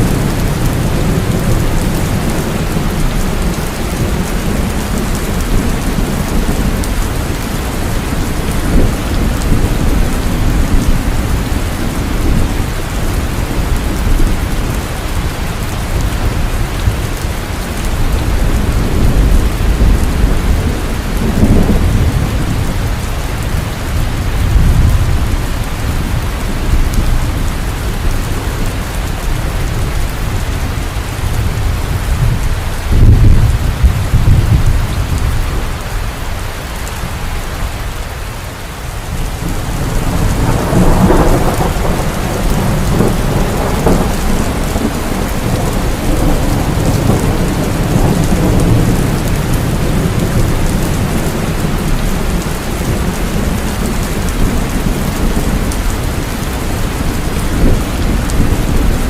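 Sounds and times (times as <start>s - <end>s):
deep rolling thunder: 0.0s - 36.0s, 39.2s - 59.0s
heavy rain falling: 0.0s - 59.0s.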